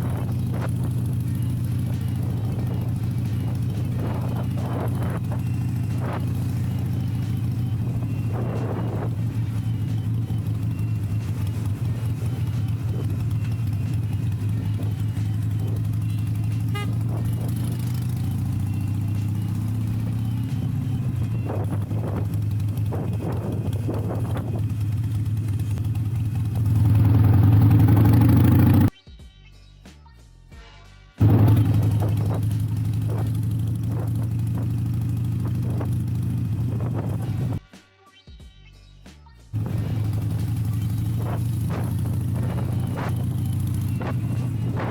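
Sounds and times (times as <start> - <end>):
motorcycle engine running: 0.0 - 28.9, 31.2 - 37.6, 39.6 - 44.9.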